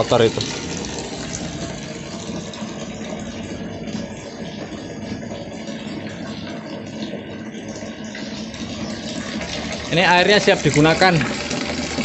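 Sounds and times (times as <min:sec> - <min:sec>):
steady motor hum: 0:00.0 - 0:12.0
water pouring into a steel drum: 0:00.0 - 0:12.0.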